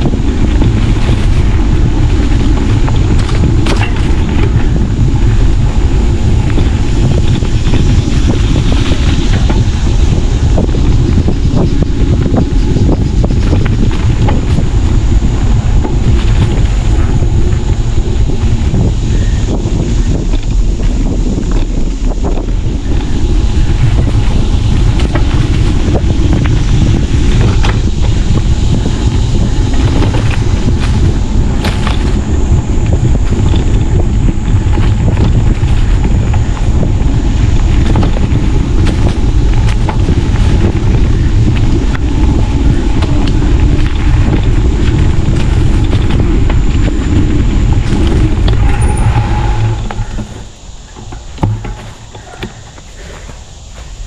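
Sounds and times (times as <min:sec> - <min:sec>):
bicycle rattling clicks and knocks: 0:00.0 - 0:53.9
wind buffeting microphone: 0:00.0 - 0:54.0.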